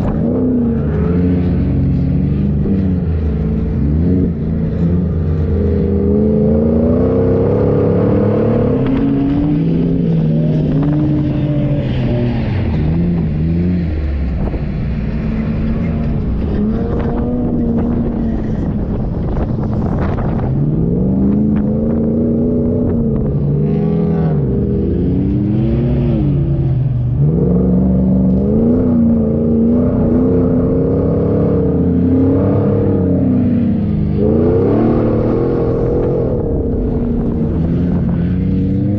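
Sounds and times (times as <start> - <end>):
steady rushing noise: 0.0 - 27.6, 31.6 - 38.9
engine revving: 0.0 - 38.9.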